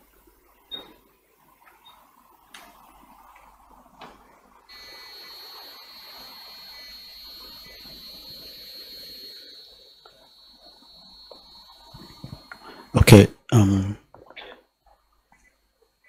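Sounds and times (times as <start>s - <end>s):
high-pitched electronic whine: 0.0s - 13.5s.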